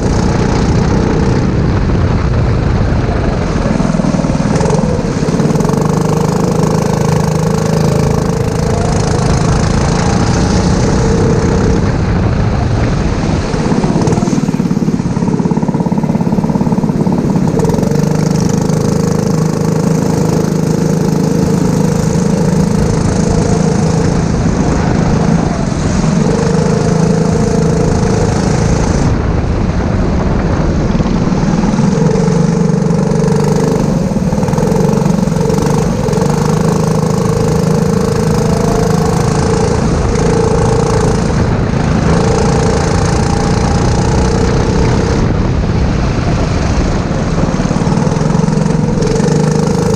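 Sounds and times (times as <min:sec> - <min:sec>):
kart engine revving: 0:00.0 - 0:49.9.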